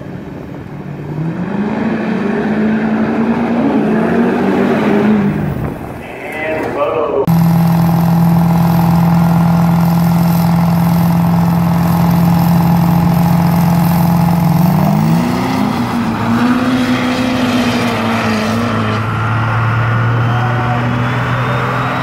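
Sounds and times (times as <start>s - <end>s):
pickup truck engines accelerating: 0.0s - 6.0s, 6.6s - 22.0s.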